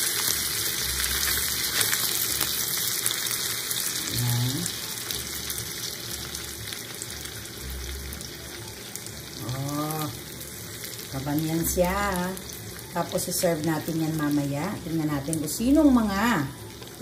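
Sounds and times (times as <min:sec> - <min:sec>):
meat sizzling in a skillet: 0:00.0 - 0:17.0.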